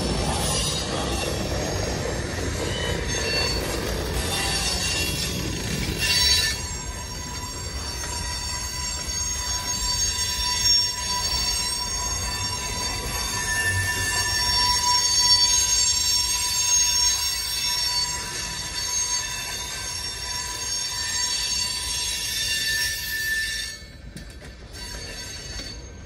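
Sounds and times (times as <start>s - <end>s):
high-pitched wheel squeal: 0.0s - 24.0s, 24.7s - 26.0s
steel wheels rumbling on rails: 0.0s - 26.0s.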